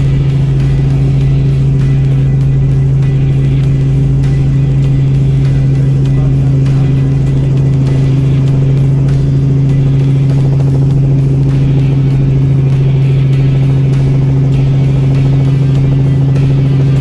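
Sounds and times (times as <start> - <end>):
helicopter engine and rotors droning: 0.0 - 17.0.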